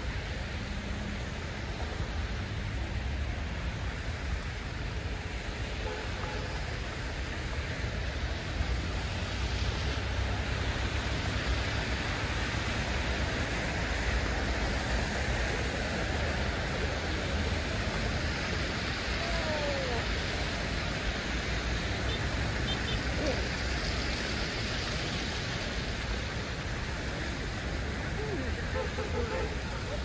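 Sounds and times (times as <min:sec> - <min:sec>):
traffic rumble: 0:00.0 - 0:30.0
tyres hissing on wet road: 0:00.0 - 0:30.0.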